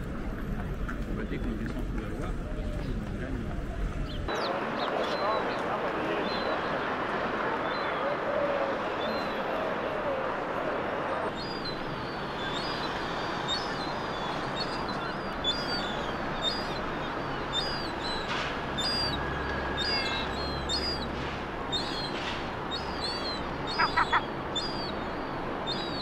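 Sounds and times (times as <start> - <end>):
gulls calling: 4.1 - 26.0.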